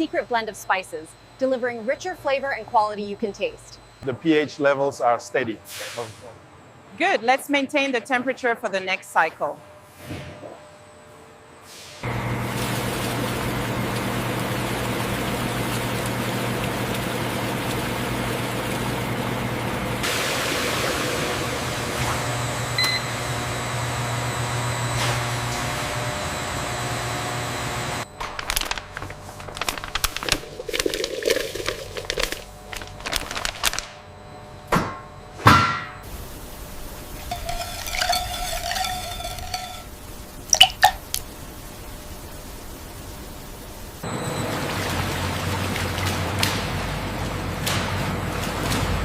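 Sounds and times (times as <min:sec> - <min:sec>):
factory machinery hum: 0:00.0 - 0:49.0.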